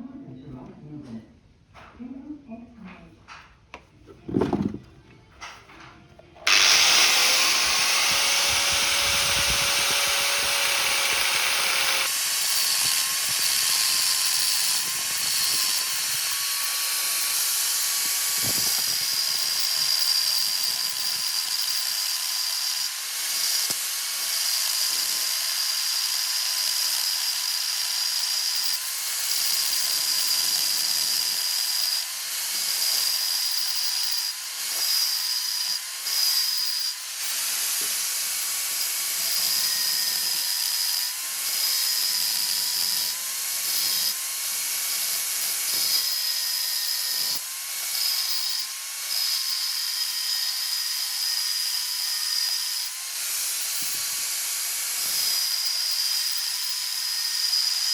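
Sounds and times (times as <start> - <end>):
electric power tool hissing: 6.4 - 57.9.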